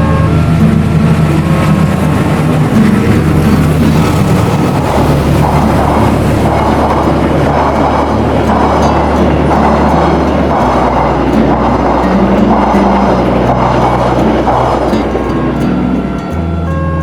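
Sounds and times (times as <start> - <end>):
diesel train engine drone: 0.0 - 17.0
train wheels rumbling: 0.0 - 17.0.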